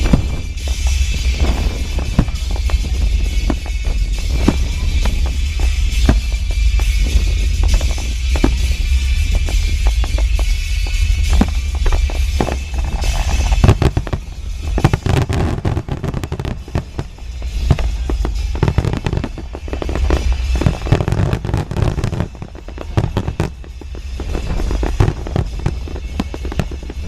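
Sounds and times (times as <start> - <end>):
fireworks bangs and crackles: 0.0 - 27.0
steady low rumble: 0.0 - 27.0.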